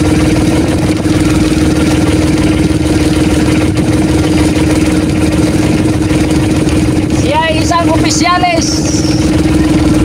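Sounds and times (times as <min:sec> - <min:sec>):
small boat engine droning: 0:00.0 - 0:10.0.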